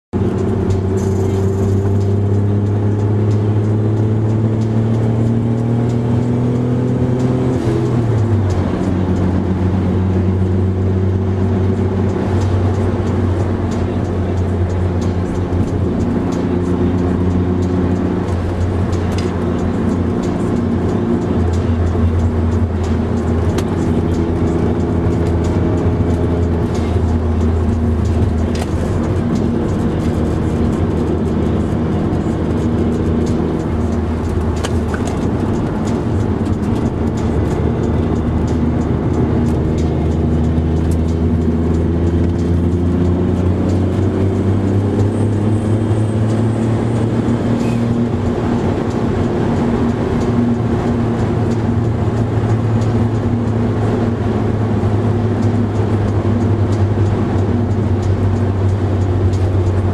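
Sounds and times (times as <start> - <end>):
car engine accelerating: 0.1 - 59.9.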